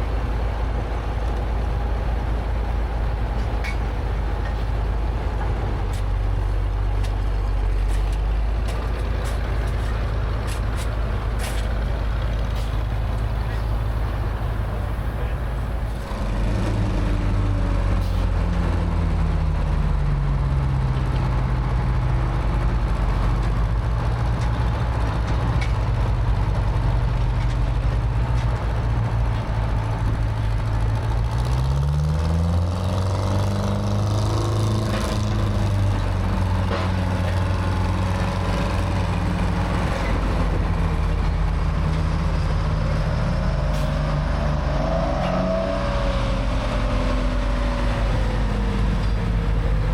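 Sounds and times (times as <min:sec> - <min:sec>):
large engine running: 0:00.0 - 0:45.2.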